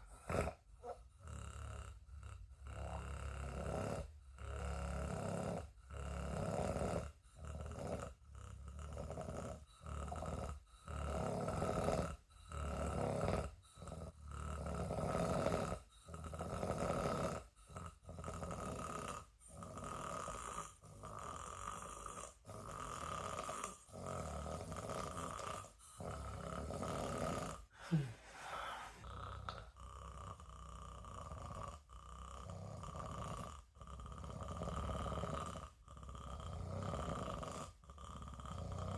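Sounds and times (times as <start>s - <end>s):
person snoring: 0.0s - 38.9s.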